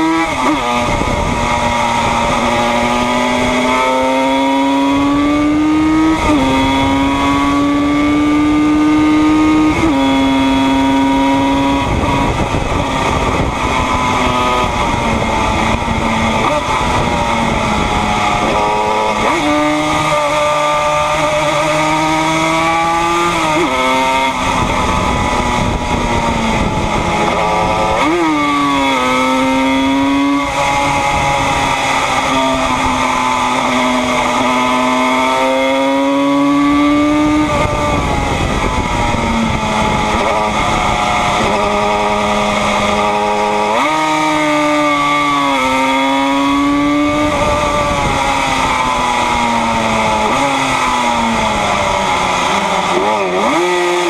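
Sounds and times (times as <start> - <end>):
motorcycle engine revving high: 0.0 - 54.0
wind rush: 0.3 - 54.0.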